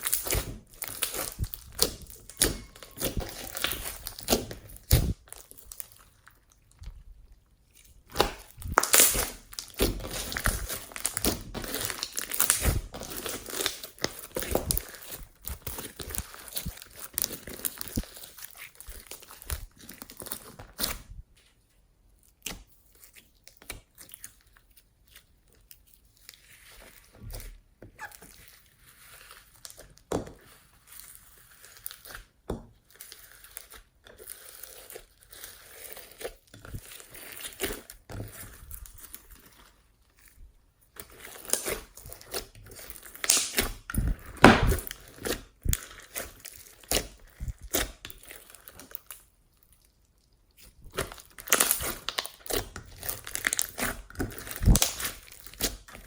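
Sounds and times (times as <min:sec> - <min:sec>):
slime crackling and popping: 0:00.0 - 0:07.0, 0:07.7 - 0:21.1, 0:31.4 - 0:56.0.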